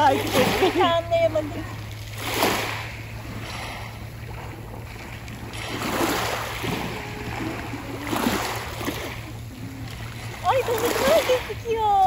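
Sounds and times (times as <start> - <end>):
shallow sea water splashing: 0.0 - 12.0.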